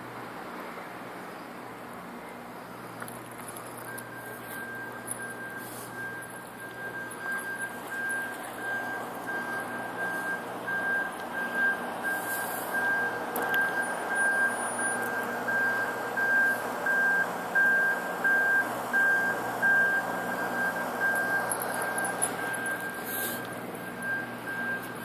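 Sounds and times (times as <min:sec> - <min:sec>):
background noise: 0:00.0 - 0:25.0
vehicle reversing alarm beeping: 0:02.2 - 0:25.0.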